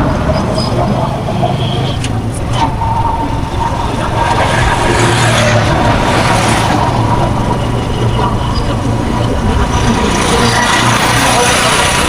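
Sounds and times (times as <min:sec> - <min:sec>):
low engine rumble: 0:00.0 - 0:12.0
vehicle passing: 0:00.0 - 0:12.0.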